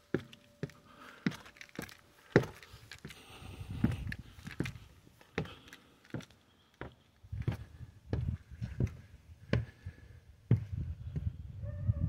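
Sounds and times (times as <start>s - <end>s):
footsteps on wooden stairs: 0.0s - 10.7s.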